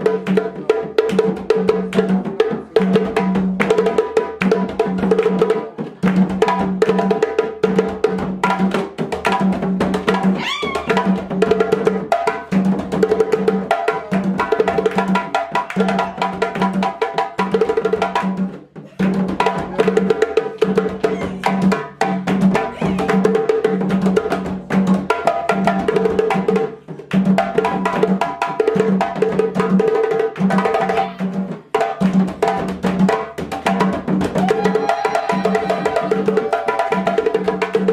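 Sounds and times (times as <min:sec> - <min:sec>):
hand drumming on djembe: 0:00.0 - 0:37.9.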